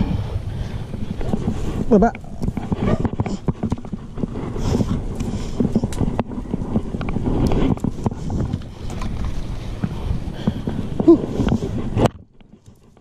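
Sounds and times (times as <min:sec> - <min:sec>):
knocks and scrapes on branches: 0:00.9 - 0:13.0.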